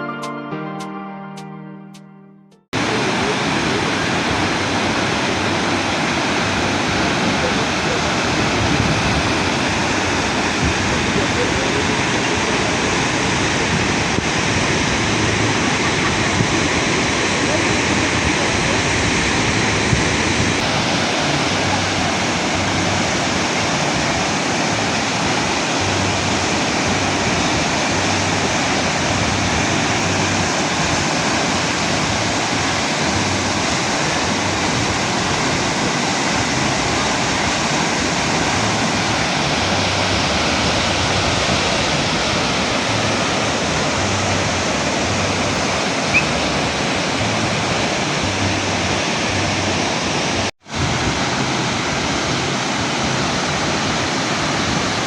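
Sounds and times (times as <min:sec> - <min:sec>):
waterfall rushing: 0:02.8 - 0:55.0.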